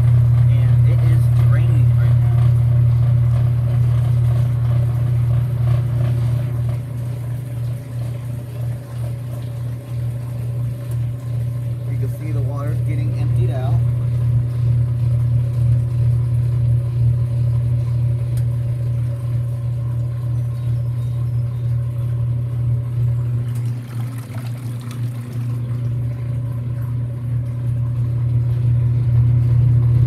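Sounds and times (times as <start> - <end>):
washing machine drain hum: 0.0 - 30.0.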